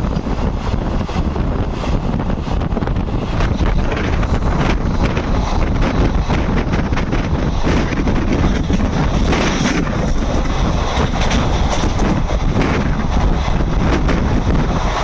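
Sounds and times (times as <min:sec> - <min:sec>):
train coach rumbling: 0:00.0 - 0:15.0
wind buffeting microphone: 0:00.0 - 0:15.0.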